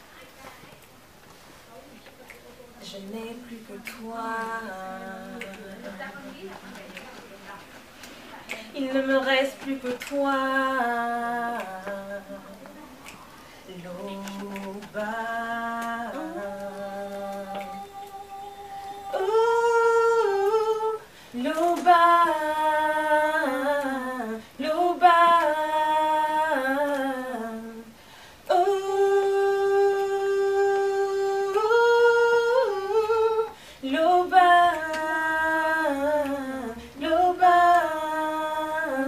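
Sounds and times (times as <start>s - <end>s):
woman singing a cappella: 2.1s - 39.0s.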